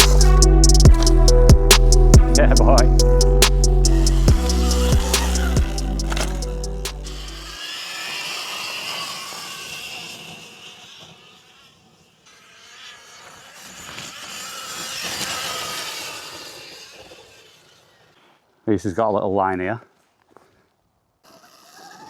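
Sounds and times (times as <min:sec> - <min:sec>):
electric dirt bike motor whining: 0:00.0 - 0:18.6, 0:21.2 - 0:22.0.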